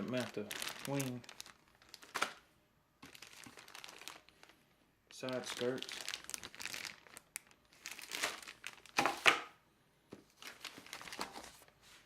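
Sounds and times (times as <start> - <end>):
packaging crinkling and rustling: 0.0 - 2.4, 3.0 - 9.5, 10.2 - 12.0.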